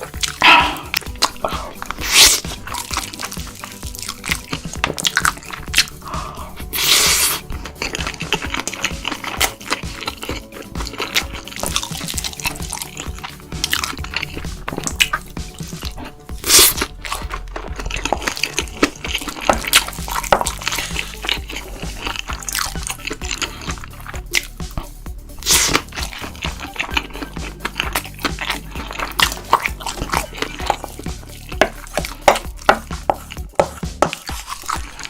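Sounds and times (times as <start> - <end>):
wet chewing and crunching: 0.0 - 35.0.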